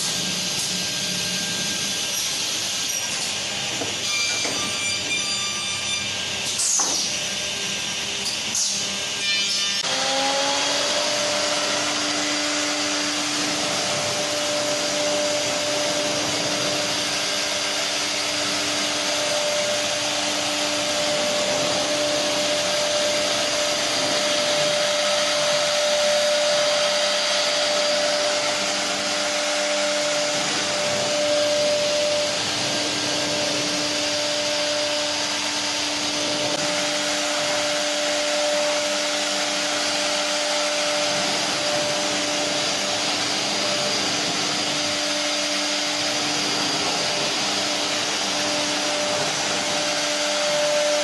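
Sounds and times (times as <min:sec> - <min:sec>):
router spindles whining: 0:00.0 - 0:51.0
rushing noise of cutting: 0:09.8 - 0:51.0.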